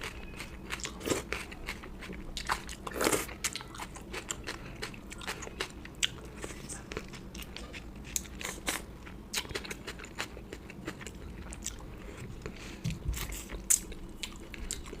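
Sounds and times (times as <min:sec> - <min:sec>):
chewing food: 0:00.0 - 0:15.0.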